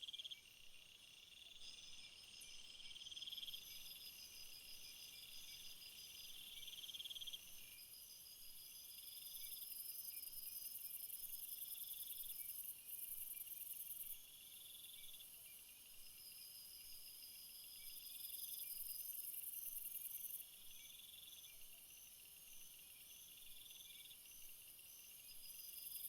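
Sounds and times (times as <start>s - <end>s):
continuous insect buzzing: 0.0s - 26.0s.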